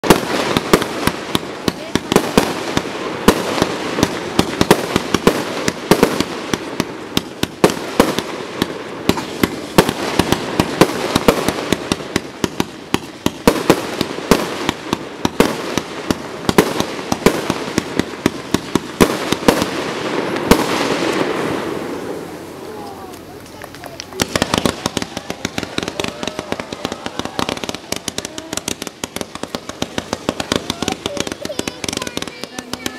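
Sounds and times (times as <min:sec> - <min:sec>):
fireworks bangs: 0:00.0 - 0:32.9
fireworks rumble and crackle: 0:00.0 - 0:32.9.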